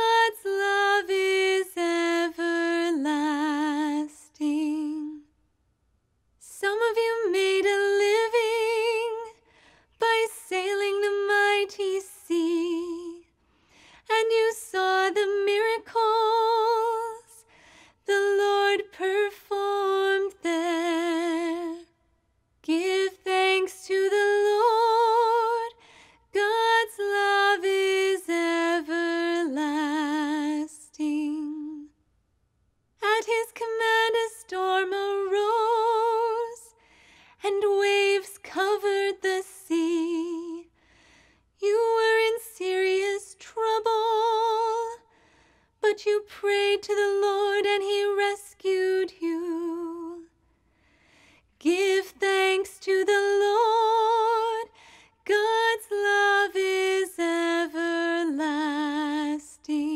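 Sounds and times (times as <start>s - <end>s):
woman singing unaccompanied: 0.0s - 5.3s, 6.4s - 9.4s, 10.0s - 13.3s, 14.1s - 22.0s, 22.6s - 31.9s, 33.0s - 36.8s, 37.4s - 40.7s, 41.6s - 45.1s, 45.8s - 50.3s, 51.6s - 59.9s.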